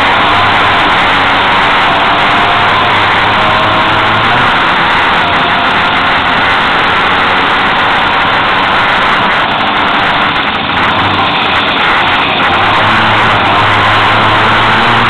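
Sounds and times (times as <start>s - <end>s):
car engine at high revs: 0.0s - 15.0s
road noise: 0.0s - 15.0s
wind noise: 0.0s - 15.0s.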